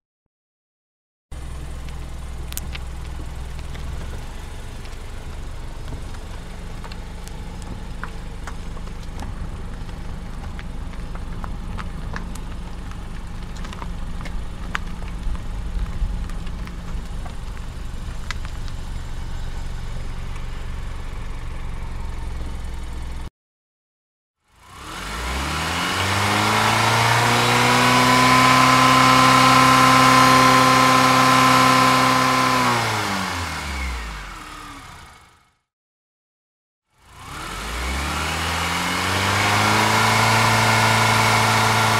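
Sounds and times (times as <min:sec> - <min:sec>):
car engine and road rumble: 0:01.3 - 0:23.3, 0:24.5 - 0:35.6, 0:36.9 - 0:41.9.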